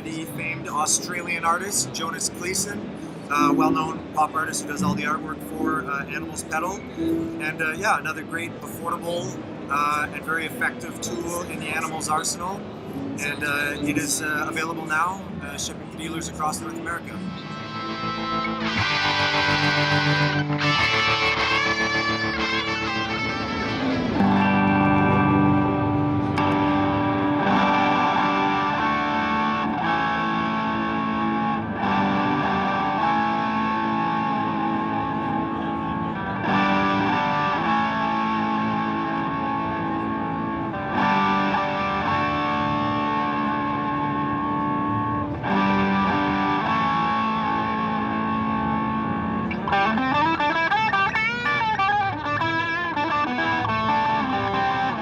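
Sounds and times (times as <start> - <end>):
overdriven electric guitar chords: 0.0 - 55.0.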